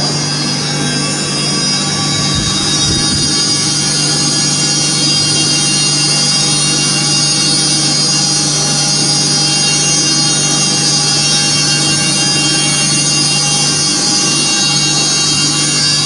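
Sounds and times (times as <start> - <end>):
grinding machine humming and whining: 0.0 - 16.0.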